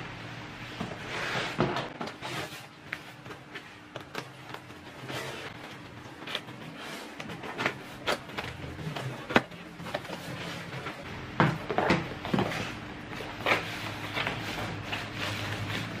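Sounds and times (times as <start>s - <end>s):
cardboard scraping and rustling: 0.8s - 16.0s.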